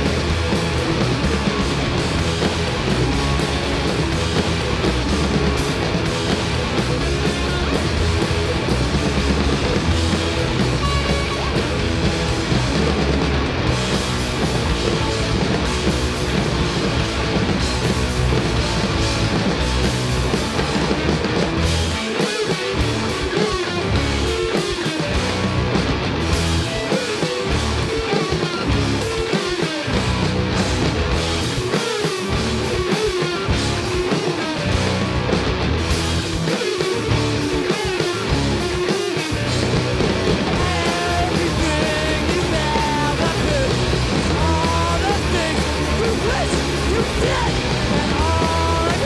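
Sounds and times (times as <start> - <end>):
distorted electric guitars: 0.0 - 49.0
drum kits: 0.0 - 49.0
electric bass: 0.0 - 49.0.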